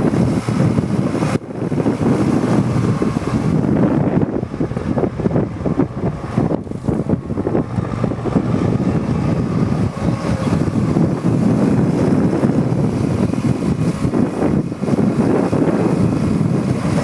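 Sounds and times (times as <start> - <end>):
excavator diesel engine rumbling: 0.0 - 17.0
wind noise on microphone: 0.0 - 17.0.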